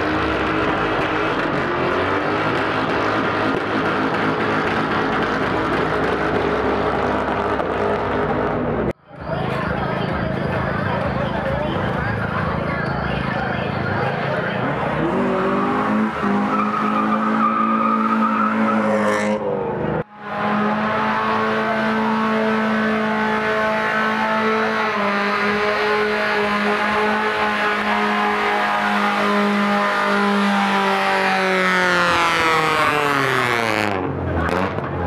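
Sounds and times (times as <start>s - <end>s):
car engine at high revs: 0.0s - 9.0s, 10.3s - 35.0s
tire spinning on pavement: 0.0s - 35.0s.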